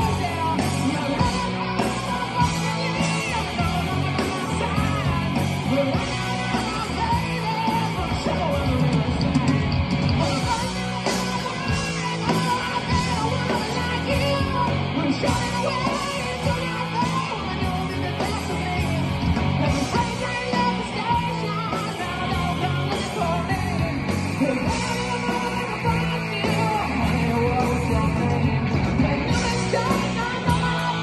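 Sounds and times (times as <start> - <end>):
bass guitar: 0.0 - 31.0
drums: 0.0 - 31.0
overdriven electric guitars: 0.0 - 31.0.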